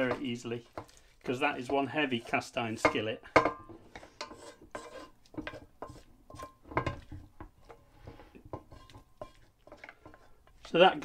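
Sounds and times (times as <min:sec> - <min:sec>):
utensil scraping cast iron skillet: 0:00.0 - 0:11.0.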